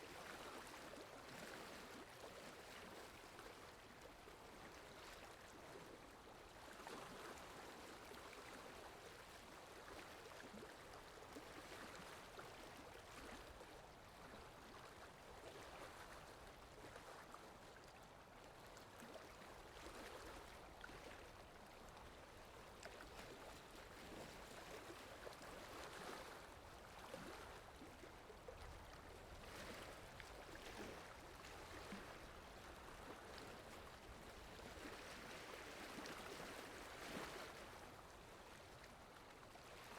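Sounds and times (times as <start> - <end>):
small water splashes: 0.0 - 39.9.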